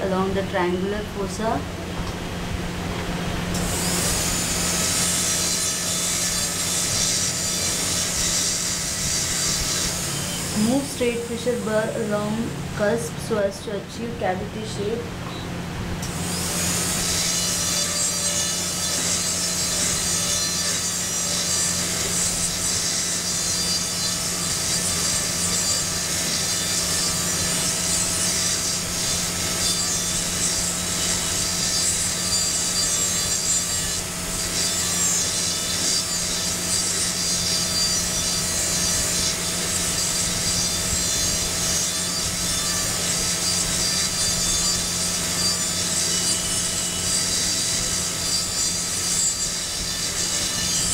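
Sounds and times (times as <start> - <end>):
dental drill whining: 3.5 - 13.2, 16.0 - 50.9.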